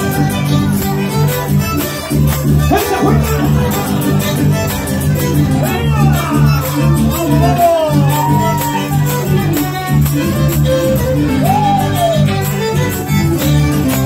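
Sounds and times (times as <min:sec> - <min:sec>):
guitar accompaniment: 0:00.0 - 0:14.0
steady rhythmic beat: 0:00.0 - 0:14.0
violin bowed melody: 0:00.0 - 0:14.0.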